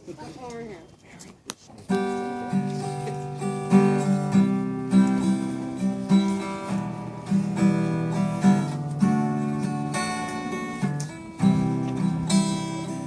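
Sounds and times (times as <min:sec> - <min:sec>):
acoustic guitar strumming: 0:01.8 - 0:13.0.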